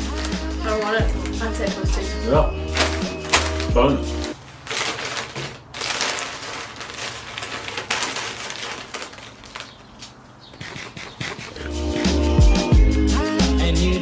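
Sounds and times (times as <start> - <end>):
foil packet crinkling: 0.0 - 11.6.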